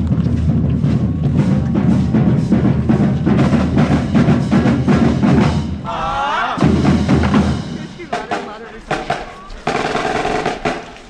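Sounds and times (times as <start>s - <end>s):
drumline playing fast cadence: 0.0s - 11.0s.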